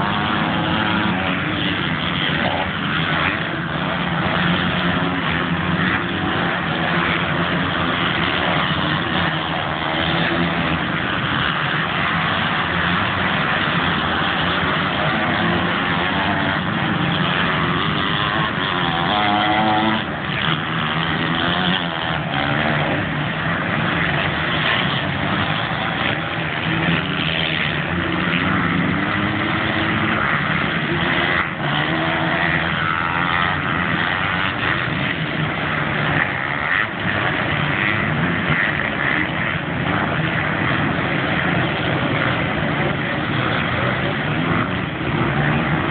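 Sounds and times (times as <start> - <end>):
motocross engines revving: 0.0 - 45.9.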